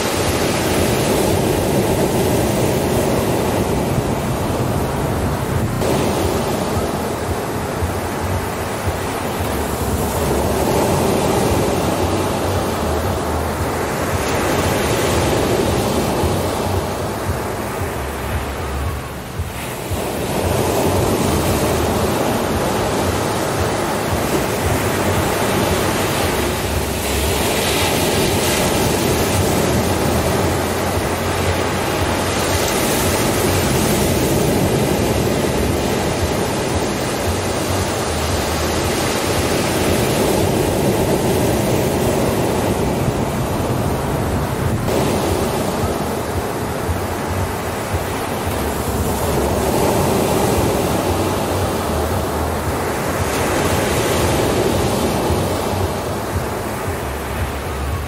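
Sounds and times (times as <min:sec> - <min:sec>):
ocean surf washing on beach: 0:00.0 - 0:58.0.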